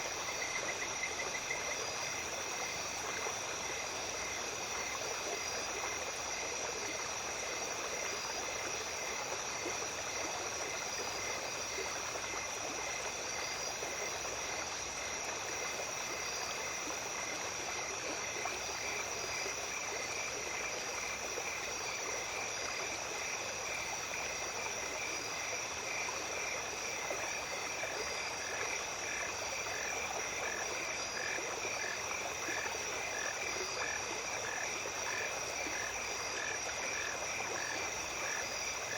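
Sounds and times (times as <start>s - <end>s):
high-pitched insect chorus: 0.0s - 38.9s
small stream running: 0.0s - 38.9s.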